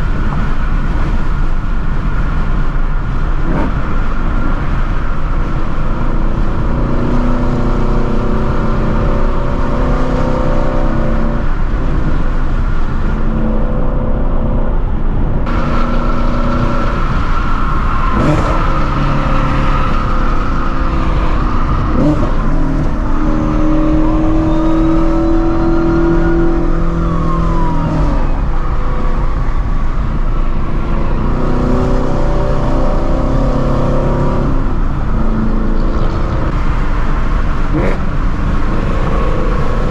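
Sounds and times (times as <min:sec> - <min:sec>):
car engine revving: 0:03.1 - 0:39.9.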